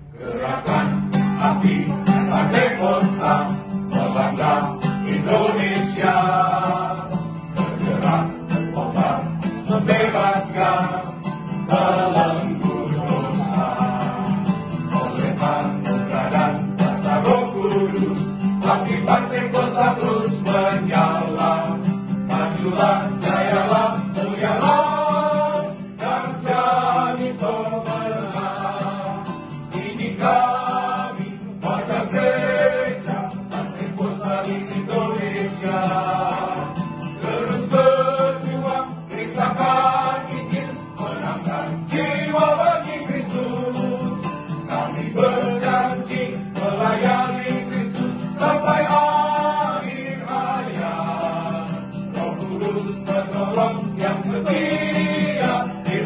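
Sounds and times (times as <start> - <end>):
choir singing: 0.0 - 56.0
strummed acoustic guitar: 0.0 - 56.0.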